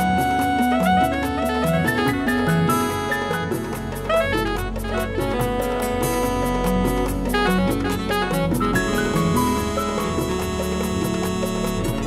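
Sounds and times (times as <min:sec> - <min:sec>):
instrumental background music: 0:00.0 - 0:12.0
steady bass line: 0:00.0 - 0:12.0.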